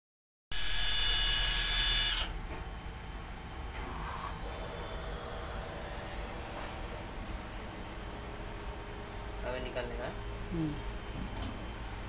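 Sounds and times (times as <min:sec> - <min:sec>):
machine hum with high whine: 0:00.5 - 0:12.0
loud hissing whine: 0:00.6 - 0:10.4.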